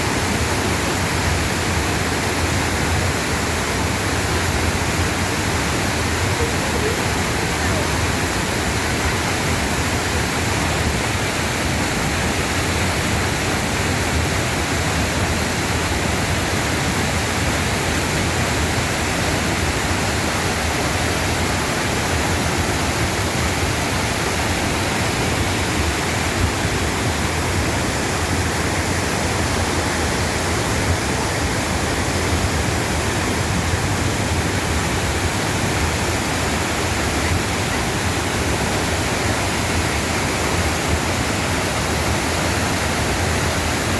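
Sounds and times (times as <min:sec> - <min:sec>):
waterfall roaring: 0:00.0 - 0:43.9.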